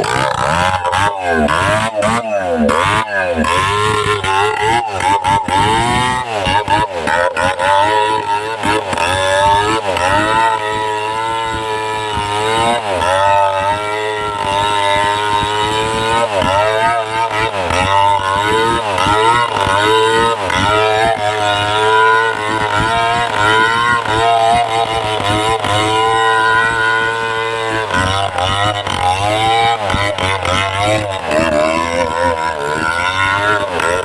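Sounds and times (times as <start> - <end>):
chainsaw cutting tree trunk: 0.0 - 34.0.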